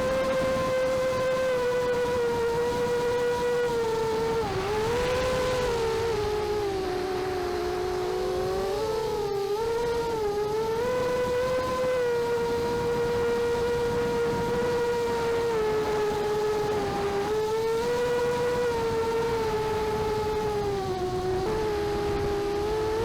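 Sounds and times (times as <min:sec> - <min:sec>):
quad bike engine droning: 0:00.0 - 0:23.0.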